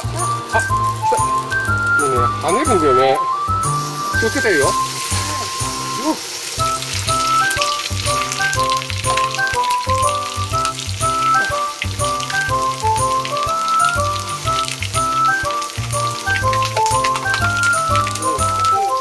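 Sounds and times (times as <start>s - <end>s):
background music with steady beat: 0.0s - 19.0s
oil sizzling and crackling: 0.0s - 19.0s.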